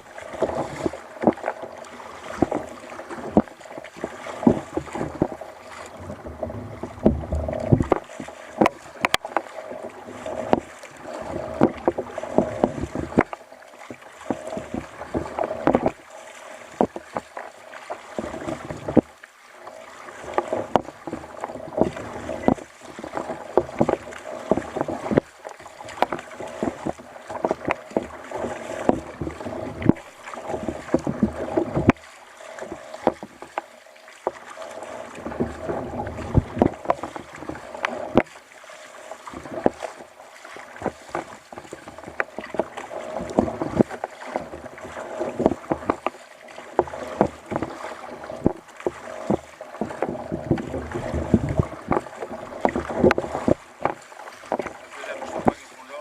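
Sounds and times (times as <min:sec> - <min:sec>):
water splashing against kayak hull: 0:00.0 - 0:56.0.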